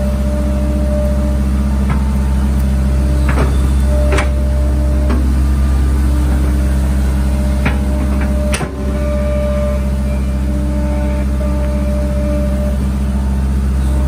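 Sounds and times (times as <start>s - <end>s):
excavator diesel engine: 0.0s - 14.0s
thin whine: 0.0s - 14.0s.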